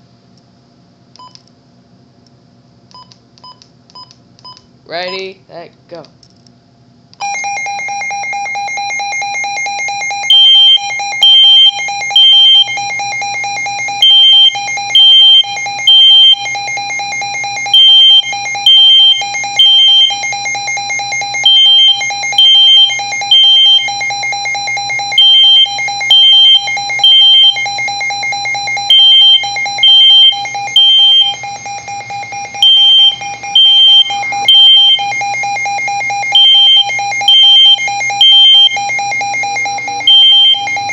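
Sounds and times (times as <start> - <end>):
smoke detector beeping: 1.2 - 1.4, 2.9 - 5.4, 7.2 - 40.9
weather radio alarm pulsing tone: 7.2 - 40.9.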